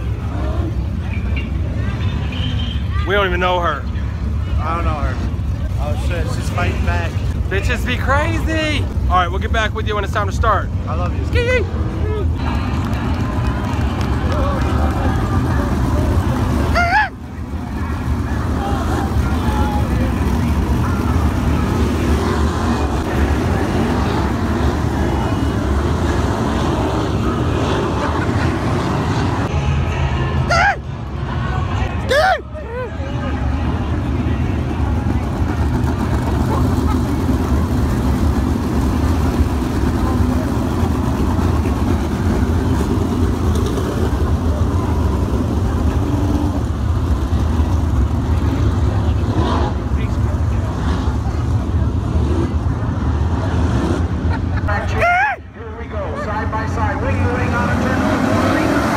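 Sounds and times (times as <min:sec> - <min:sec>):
race car engines droning: 0:00.0 - 0:58.9.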